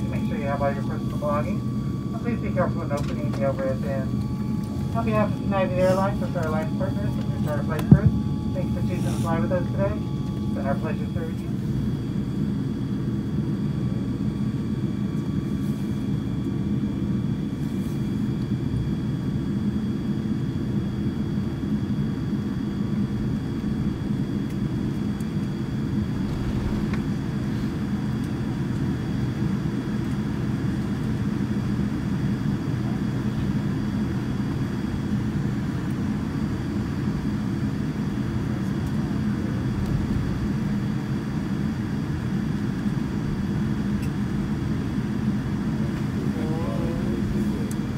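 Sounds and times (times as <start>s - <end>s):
airliner cabin rumble and hum: 0.0s - 47.9s.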